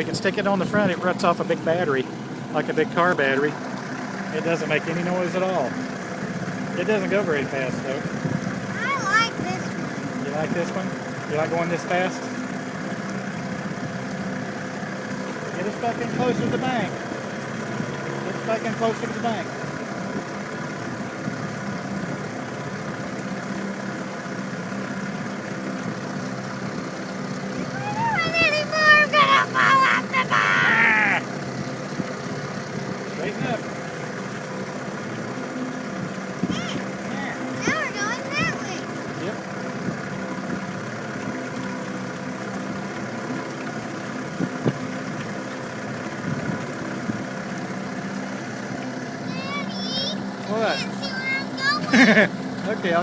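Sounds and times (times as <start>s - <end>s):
outboard motor droning: 0.0s - 53.0s.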